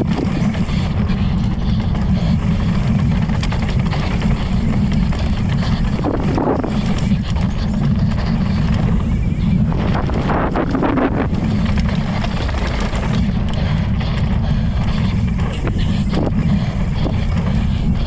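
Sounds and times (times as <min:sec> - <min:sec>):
bike rattling over bumps: 0:00.0 - 0:18.0
bike rolling rumble: 0:00.0 - 0:18.0
wind buffeting microphone: 0:00.0 - 0:18.0.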